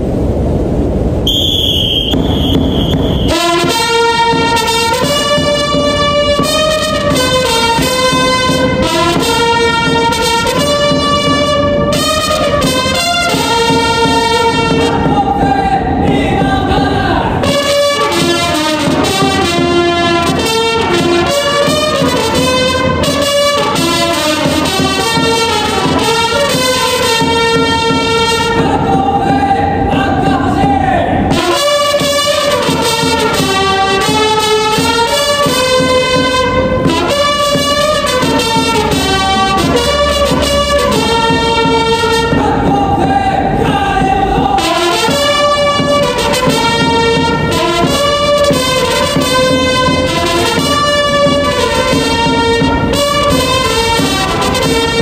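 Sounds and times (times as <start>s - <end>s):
noisy rush: 0.0s - 55.0s
trumpets playing cheer songs: 1.3s - 55.0s
drum beat: 1.8s - 55.0s.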